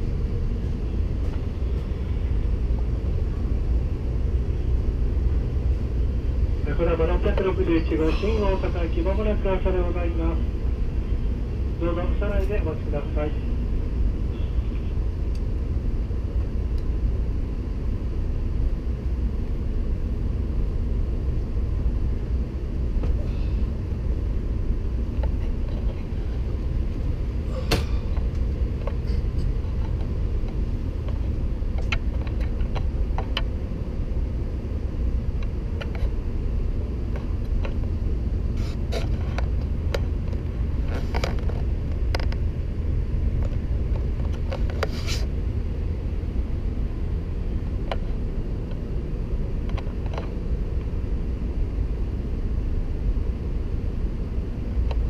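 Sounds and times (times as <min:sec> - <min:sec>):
low rumble inside train carriage: 0:00.0 - 0:55.0.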